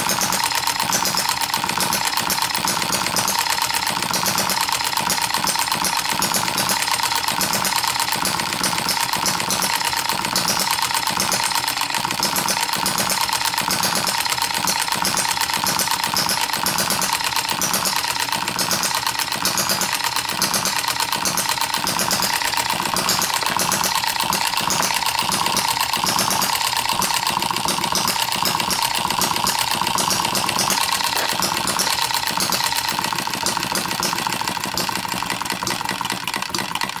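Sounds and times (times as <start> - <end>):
hit-and-miss engine running: 0.0 - 37.0.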